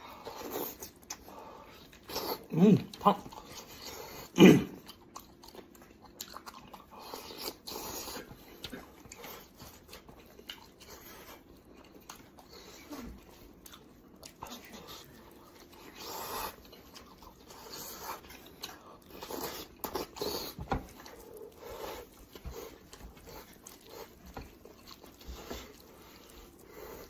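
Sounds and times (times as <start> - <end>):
person chewing and biting: 0.2 - 27.0.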